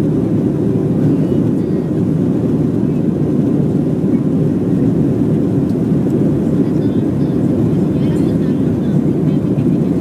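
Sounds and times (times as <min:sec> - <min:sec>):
airplane cabin engine roar: 0:00.0 - 0:10.0.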